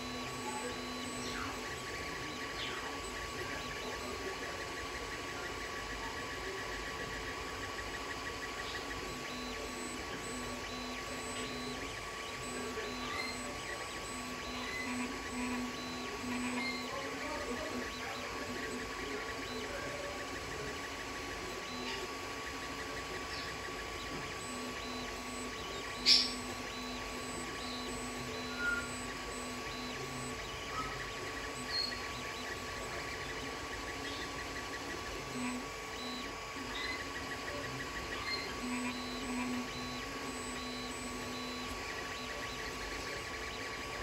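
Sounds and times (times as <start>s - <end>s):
stepper motors whirring: 0.0s - 44.0s.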